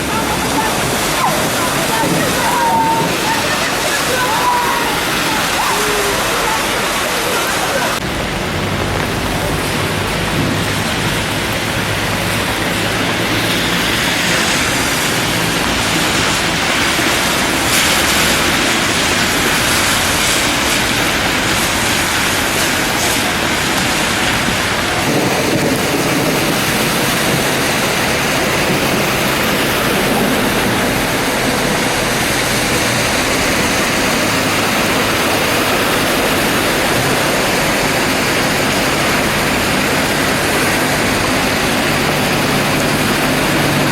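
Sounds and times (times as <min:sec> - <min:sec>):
heavy rain and running water: 0:00.0 - 0:43.9.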